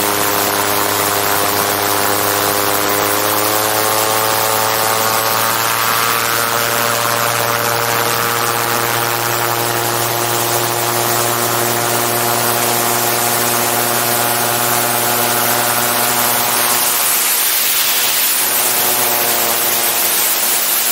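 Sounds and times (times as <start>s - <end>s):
aircraft engine and propeller: 0.0s - 20.9s.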